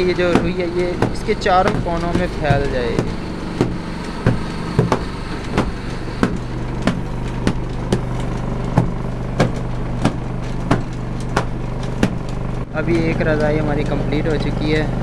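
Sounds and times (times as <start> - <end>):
stick beating cotton quilt: 0.0 - 14.9
low steady hum: 0.0 - 15.0.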